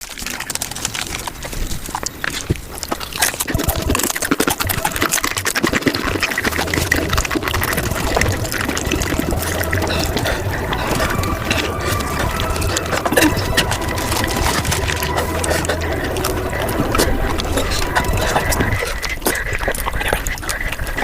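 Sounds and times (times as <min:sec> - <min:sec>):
sped-up chewing and mouth clicks: 0:00.0 - 0:21.0.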